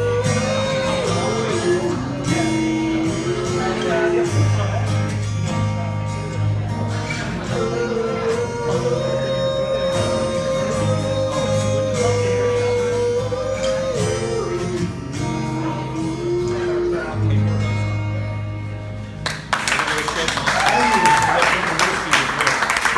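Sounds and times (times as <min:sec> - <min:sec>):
acoustic guitar: 0:00.0 - 0:22.9.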